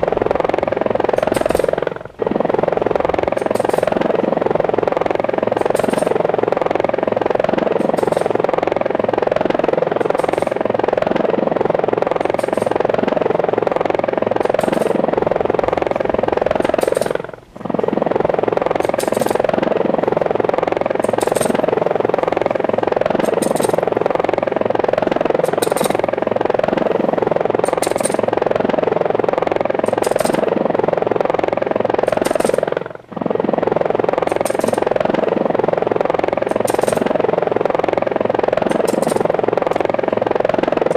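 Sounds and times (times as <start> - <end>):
helicopter rotor noise: 0.0 - 40.9.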